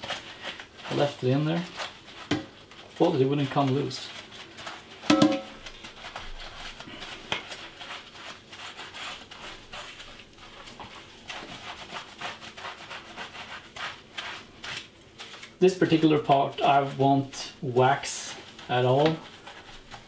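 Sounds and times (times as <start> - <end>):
wet scrubbing strokes: 0.0 - 20.0.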